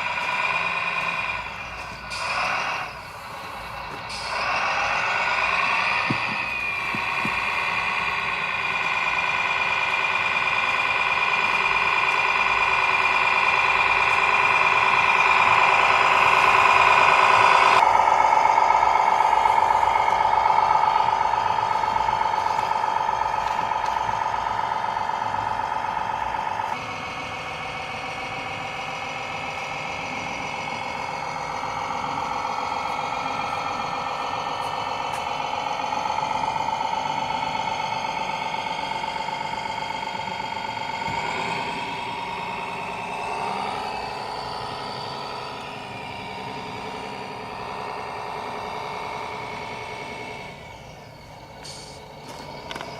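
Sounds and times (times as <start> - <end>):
model machinery hum and whine: 0.0 - 52.9.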